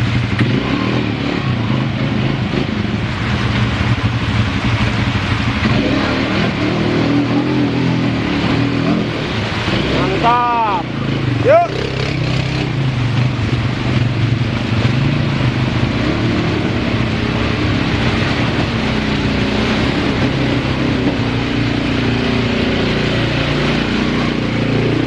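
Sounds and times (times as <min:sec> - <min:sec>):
atv engine running: 0:00.0 - 0:25.0
vehicle churning through water: 0:00.0 - 0:25.0.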